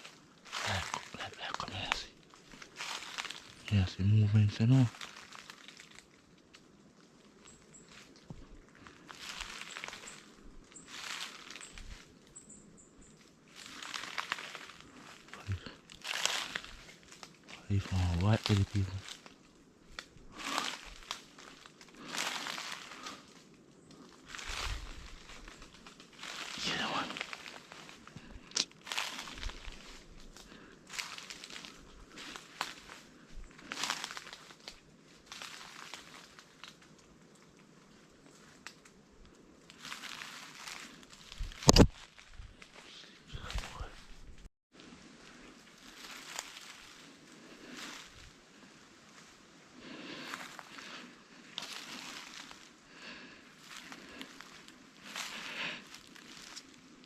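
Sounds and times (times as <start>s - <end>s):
footsteps crunching through dry leaves: 0.0s - 6.2s, 7.0s - 12.3s, 13.1s - 38.8s, 39.6s - 57.0s.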